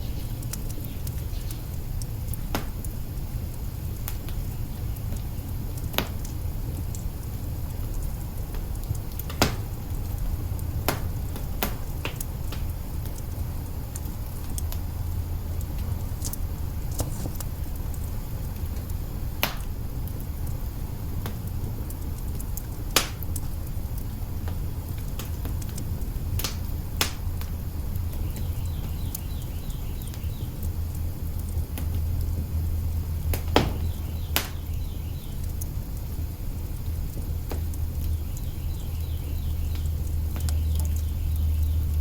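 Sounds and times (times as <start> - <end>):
sharp pops from fire: 0.0 - 42.0
wood fire crackling: 0.0 - 42.0.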